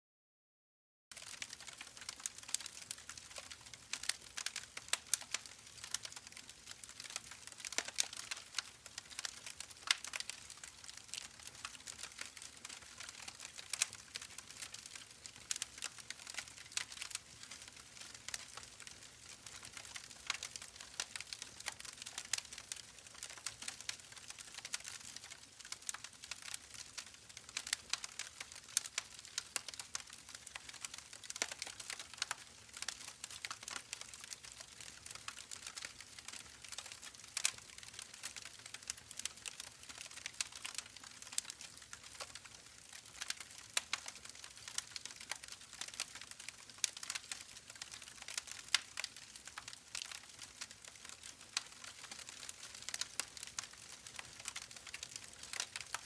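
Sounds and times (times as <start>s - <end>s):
campfire crackling: 1.1s - 56.0s.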